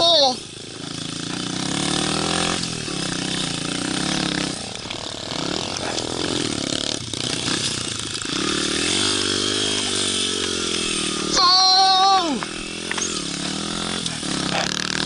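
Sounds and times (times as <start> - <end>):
small motorbike engine revving: 0.0 - 15.0.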